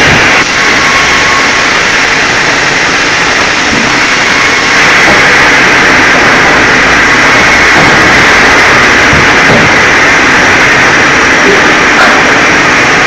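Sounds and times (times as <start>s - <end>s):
band sawmill running: 0.0s - 13.0s.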